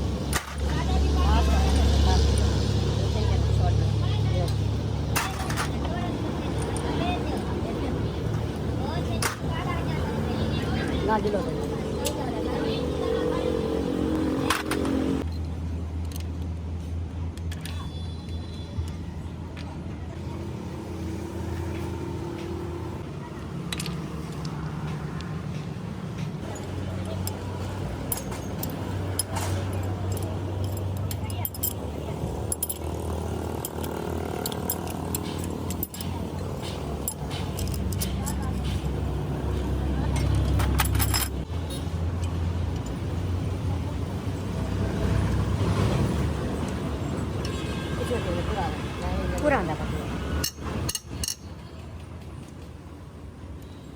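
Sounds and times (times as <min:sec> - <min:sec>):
engine rumbling: 0:00.0 - 0:17.7, 0:18.9 - 0:53.9.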